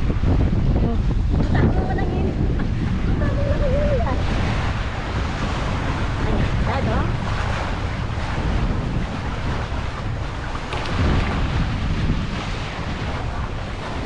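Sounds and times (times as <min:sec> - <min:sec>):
rushing sea water: 0:00.0 - 0:14.0
wind buffeting microphone: 0:00.0 - 0:14.0.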